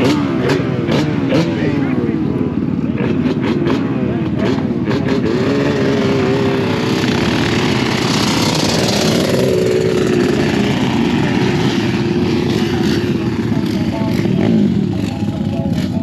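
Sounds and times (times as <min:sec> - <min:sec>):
off-road vehicle engine running: 0:00.0 - 0:16.0.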